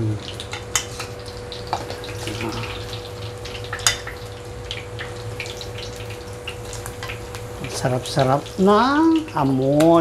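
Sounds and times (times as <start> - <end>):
oil sizzling with pops: 0.0 - 10.0.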